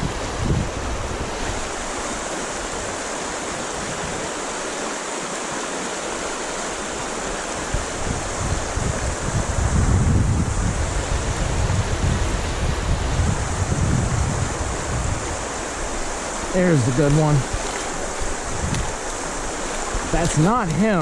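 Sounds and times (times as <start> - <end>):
wind gusts buffeting microphone: 0.0 - 4.4, 6.2 - 21.0
creek water flowing: 0.0 - 21.0.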